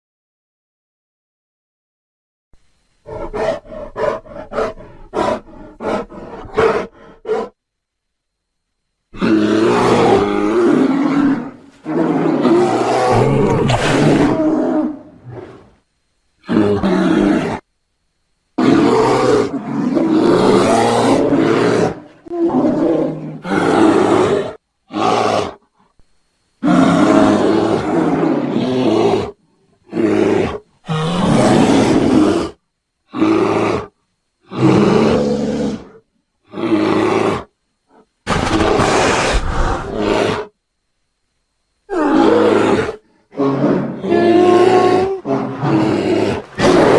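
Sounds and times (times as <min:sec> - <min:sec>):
bear roaring and growling: 0:03.0 - 0:07.6, 0:09.1 - 0:15.8, 0:16.4 - 0:17.6, 0:18.6 - 0:25.6, 0:26.6 - 0:40.6, 0:41.9 - 0:46.9.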